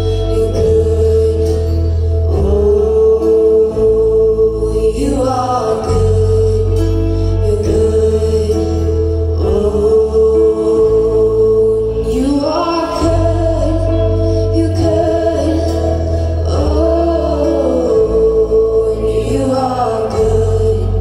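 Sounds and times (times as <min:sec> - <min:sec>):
low bass notes: 0:00.0 - 0:21.0
woman singing into a microphone: 0:00.0 - 0:21.0.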